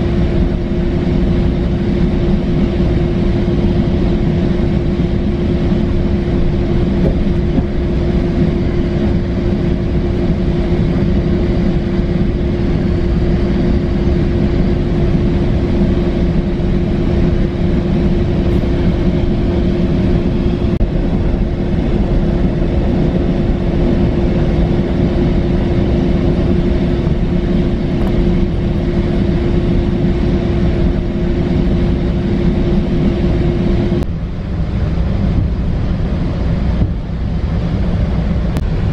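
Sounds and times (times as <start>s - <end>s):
constant hum: 0.0s - 38.9s
train rumble from inside: 0.0s - 38.9s.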